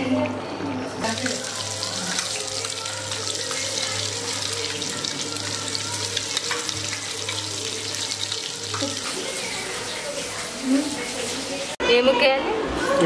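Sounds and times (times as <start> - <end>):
curry simmering with bubbles: 1.0 - 11.8.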